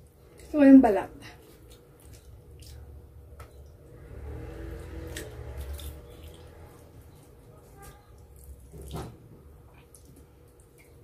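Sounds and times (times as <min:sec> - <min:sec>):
chicken meat tearing wet squishing: 0:01.4 - 0:11.0.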